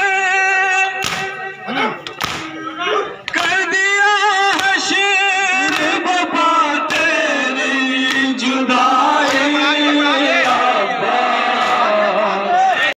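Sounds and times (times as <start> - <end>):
man singing a slow lament: 0.0 - 2.0, 3.2 - 12.9.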